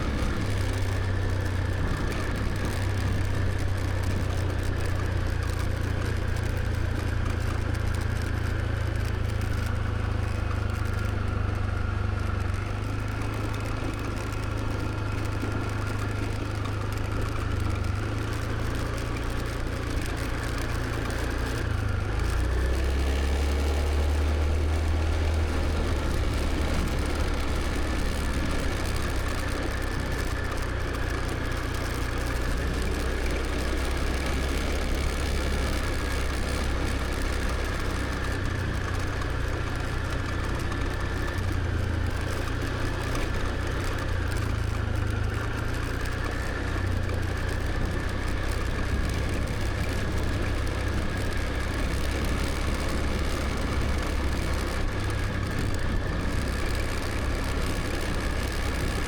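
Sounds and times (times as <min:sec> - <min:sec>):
motor scooter engine running: 0:00.0 - 0:59.0
road and wind noise: 0:00.0 - 0:59.0.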